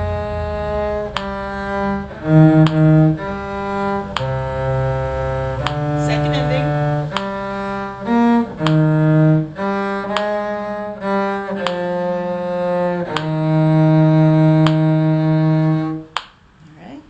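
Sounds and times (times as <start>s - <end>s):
bowed strings playing slow tune: 0.0s - 16.2s.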